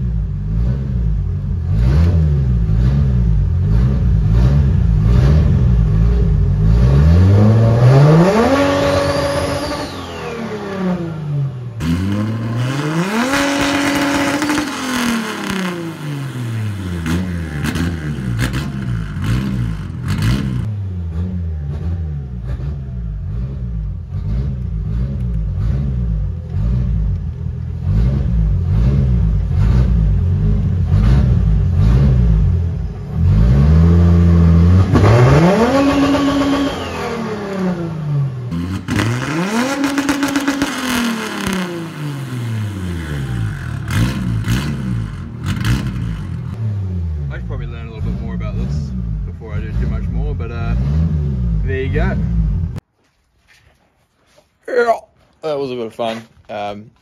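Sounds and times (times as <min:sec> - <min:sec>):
car engine revving: 0:00.0 - 0:52.8.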